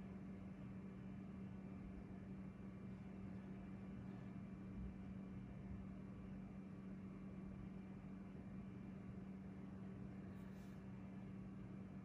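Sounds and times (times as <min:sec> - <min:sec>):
cooling fans humming: 0:00.0 - 0:12.0.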